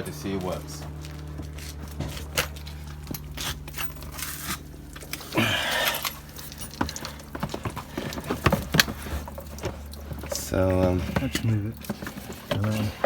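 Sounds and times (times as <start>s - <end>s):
washer pump parts clicking: 1.7s - 13.0s.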